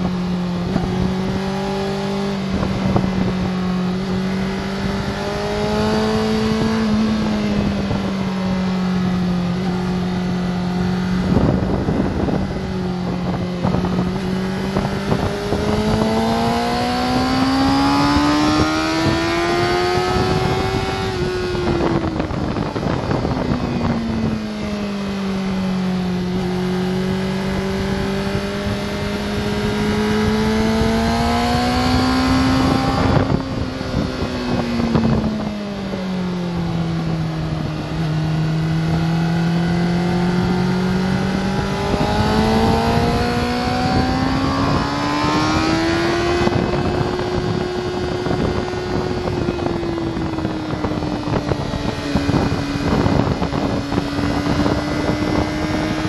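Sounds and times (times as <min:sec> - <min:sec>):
motorcycle engine at speed: 0:00.0 - 0:56.0
wind rushing over microphone: 0:00.0 - 0:56.0.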